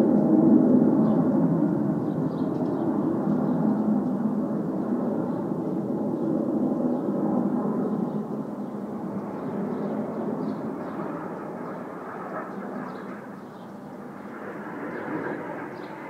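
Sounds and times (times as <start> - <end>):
jets passing overhead: 0.0 - 16.0.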